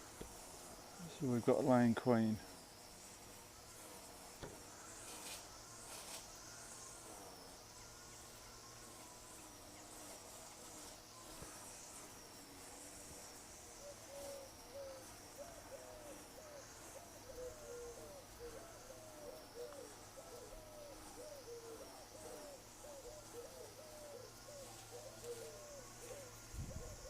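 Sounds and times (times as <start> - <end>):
faint steady hiss: 0.0 - 27.0
honeybees buzzing: 0.0 - 27.0.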